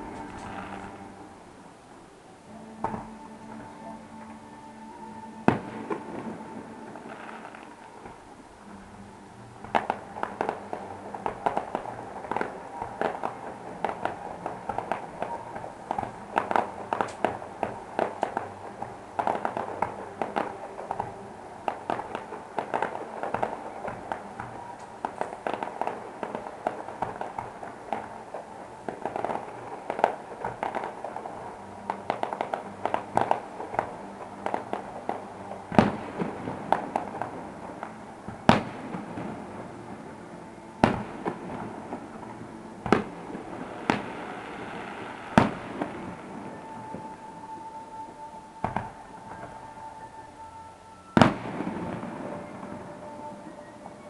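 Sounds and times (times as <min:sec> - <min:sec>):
fireworks bursting in the distance: 0:00.0 - 0:01.7, 0:02.5 - 0:54.0.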